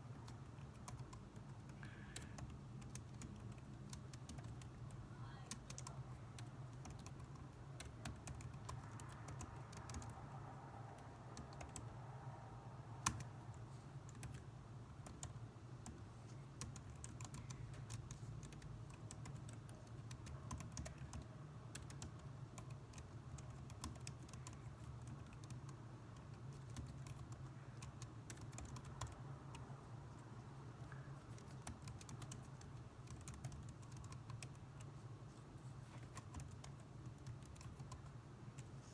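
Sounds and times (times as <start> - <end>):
typing on computer keyboard: 0.0 - 12.3, 13.0 - 30.2, 30.8 - 35.1, 36.0 - 38.8
steady low hum: 0.0 - 38.9.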